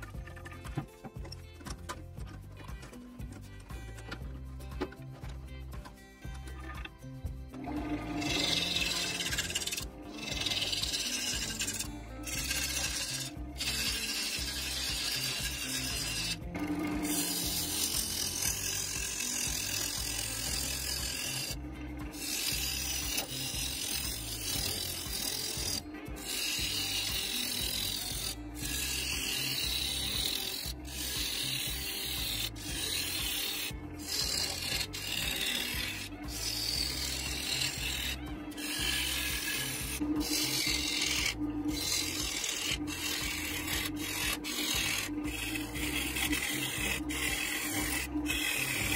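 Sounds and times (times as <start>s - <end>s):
gouge scraping wood on lathe: 0.0s - 48.9s.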